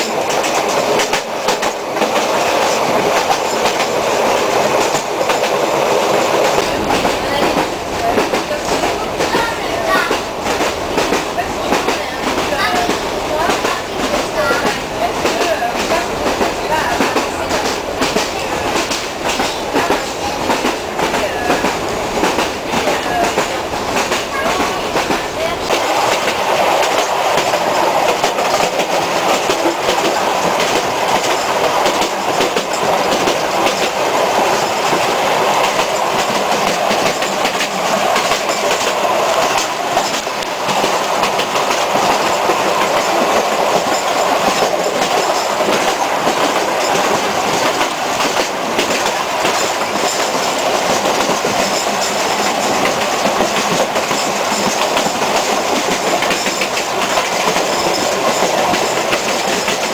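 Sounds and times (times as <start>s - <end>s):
clickety-clack of wheels: 0.0s - 59.9s
train wheels on rails: 0.0s - 59.9s.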